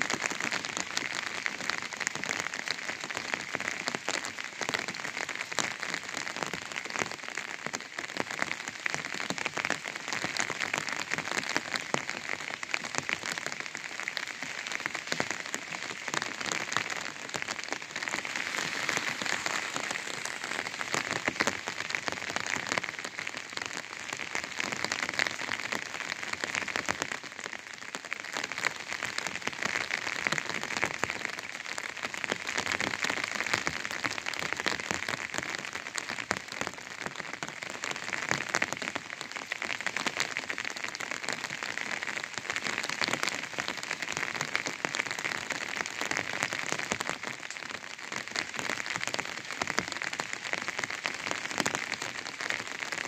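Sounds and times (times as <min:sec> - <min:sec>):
rain on an umbrella: 0:00.0 - 0:53.0.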